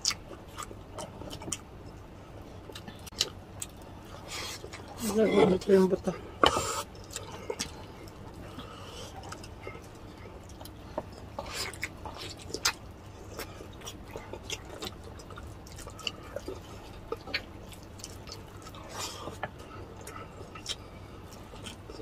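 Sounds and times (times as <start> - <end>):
chewing and lip smacking: 0.0 - 5.0, 6.6 - 22.0
low steady hum: 0.0 - 22.0.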